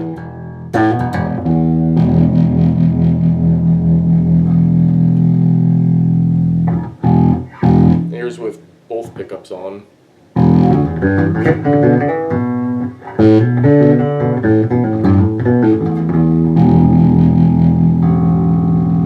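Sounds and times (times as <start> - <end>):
electric bass plucked notes: 0.0 - 8.4, 10.4 - 19.0.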